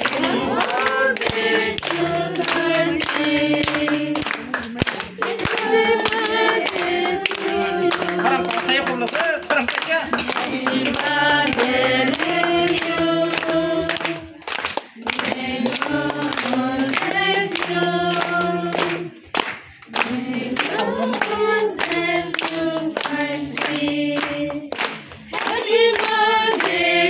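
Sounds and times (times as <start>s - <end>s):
group of people singing: 0.0s - 27.0s
hands clapping to a beat: 0.0s - 27.0s.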